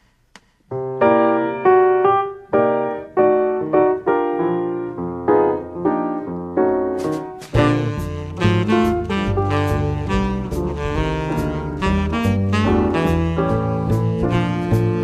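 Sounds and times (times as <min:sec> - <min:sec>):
bass accompaniment: 0:00.0 - 0:15.0
piano chords: 0:00.7 - 0:15.0.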